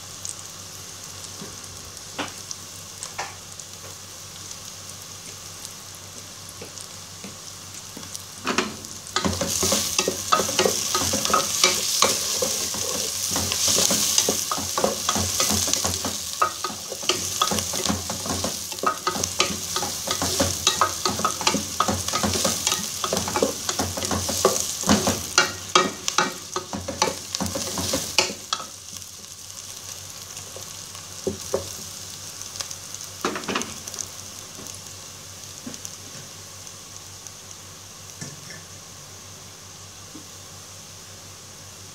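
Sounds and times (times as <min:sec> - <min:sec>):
onions sizzling in hot oil: 0:00.0 - 0:41.9.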